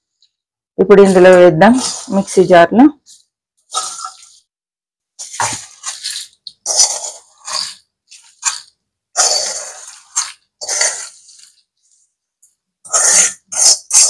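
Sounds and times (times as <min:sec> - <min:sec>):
spices rustling and scraping: 0:00.1 - 0:04.5, 0:05.2 - 0:14.0.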